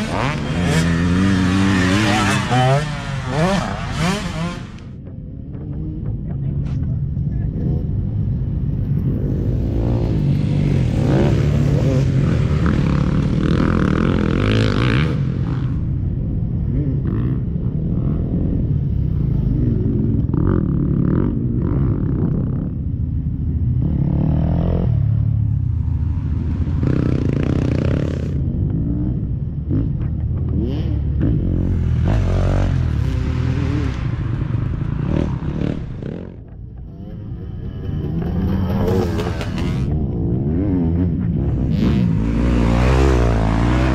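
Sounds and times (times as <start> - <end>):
dirt bike engines revving past: 0.0 - 43.9.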